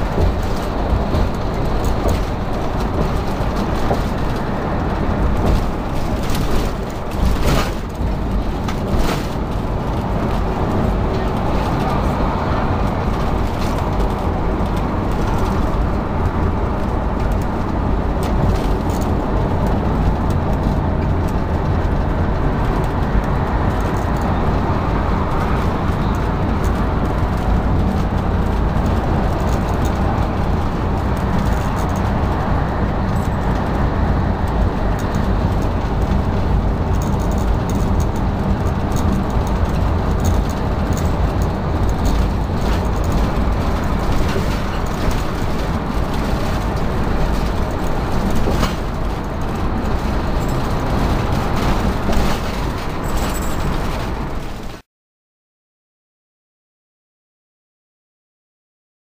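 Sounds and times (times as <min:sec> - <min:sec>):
road and engine drone: 0:00.0 - 0:54.8.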